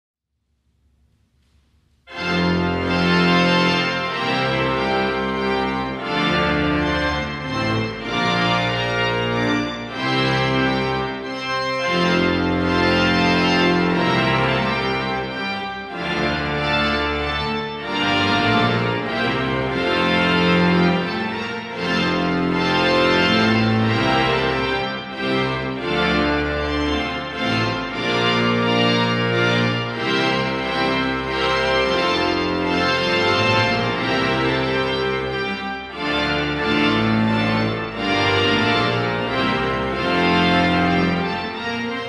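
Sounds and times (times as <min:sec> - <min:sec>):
pipe organ chords: 0:00.8 - 0:42.0.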